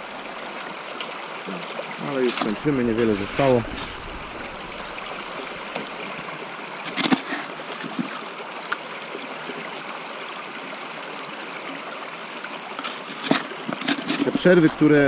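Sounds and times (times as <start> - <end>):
stream water running through sluice: 0.0 - 15.0.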